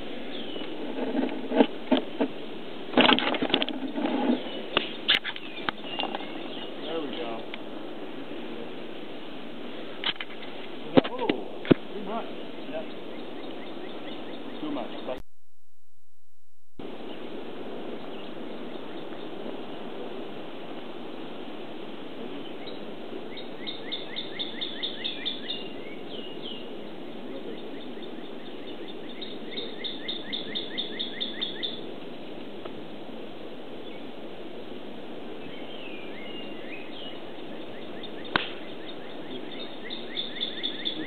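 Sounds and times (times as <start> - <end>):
songbird singing: 0.0 - 15.2, 16.8 - 20.4, 22.2 - 32.3, 33.7 - 34.2, 35.2 - 41.0
steady outdoor hiss: 0.0 - 15.2, 16.8 - 41.0.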